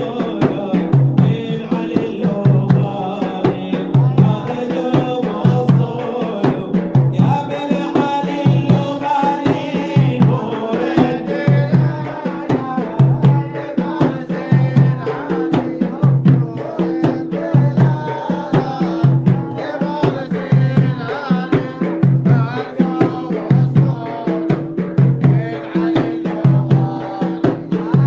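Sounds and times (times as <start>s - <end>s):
hand drums beating: 0.0s - 28.0s
man singing a chant: 0.0s - 28.0s.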